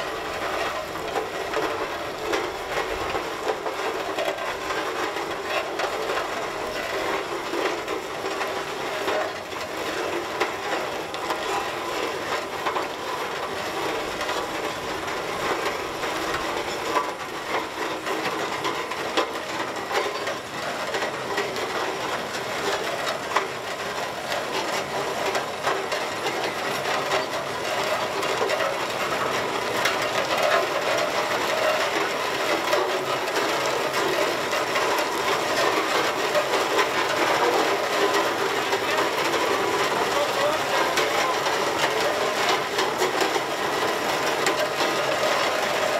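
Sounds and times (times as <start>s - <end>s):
iron wheels crunching on gravel: 0.0s - 45.9s.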